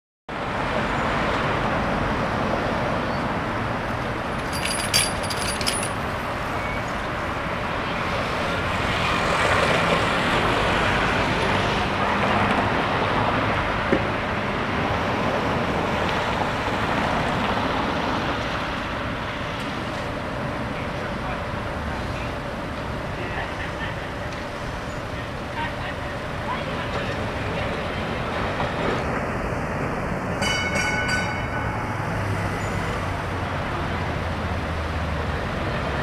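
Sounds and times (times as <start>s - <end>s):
passing cars rumble: 0.3s - 36.0s.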